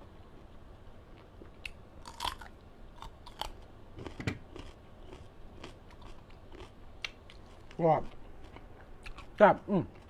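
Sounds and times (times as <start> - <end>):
wet crunchy chewing: 1.2 - 10.0.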